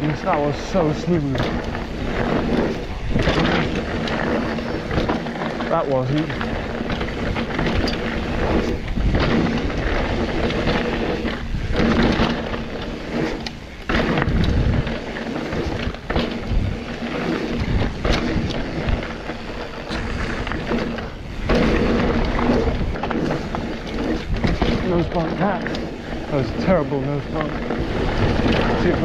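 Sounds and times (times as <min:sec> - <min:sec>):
bike knocks and rattles: 0:00.0 - 0:29.0
bike tyres on dirt and gravel: 0:00.0 - 0:29.0
wind buffeting microphone: 0:00.0 - 0:29.0.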